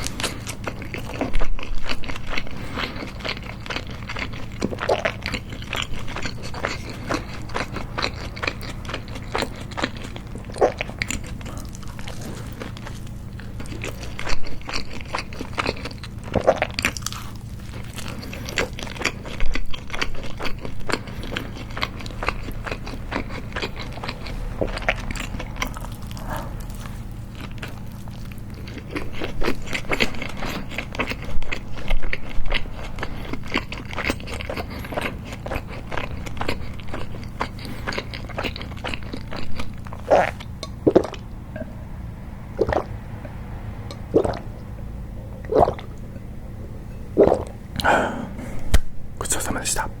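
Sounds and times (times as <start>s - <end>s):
wet chewing: 0.0s - 41.7s, 42.6s - 44.5s, 45.4s - 46.1s, 47.1s - 48.9s
faint low hum: 0.0s - 50.0s.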